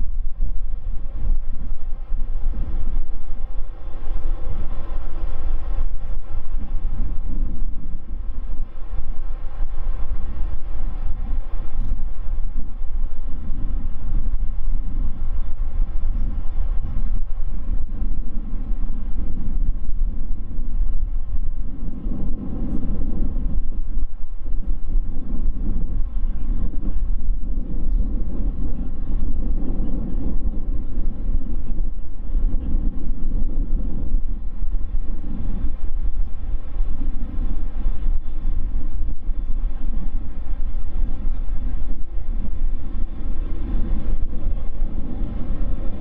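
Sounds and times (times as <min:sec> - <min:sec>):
jet engines running: 0:00.0 - 0:46.0
wind buffeting microphone: 0:00.0 - 0:46.0.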